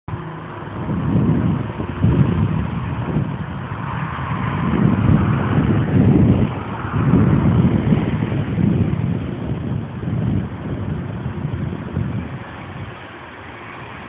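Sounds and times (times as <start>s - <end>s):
deep crackling jet rumble: 0.1s - 14.0s.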